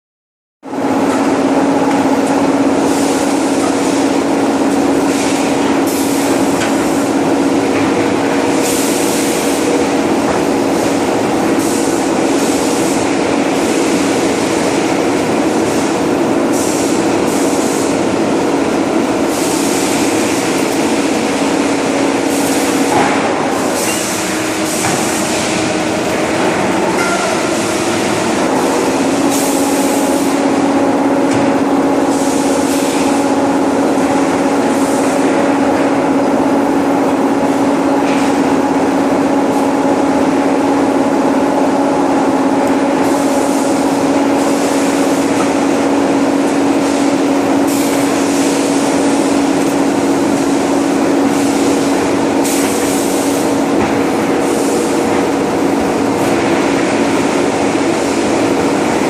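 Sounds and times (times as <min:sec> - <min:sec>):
furnace burner roaring: 0:00.6 - 0:59.0.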